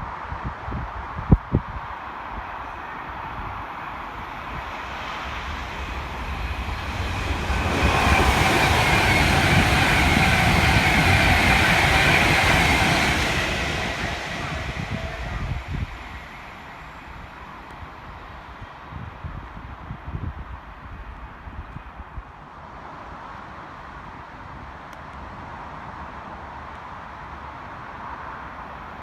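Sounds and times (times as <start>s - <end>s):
train passing on track: 0.1s - 29.0s.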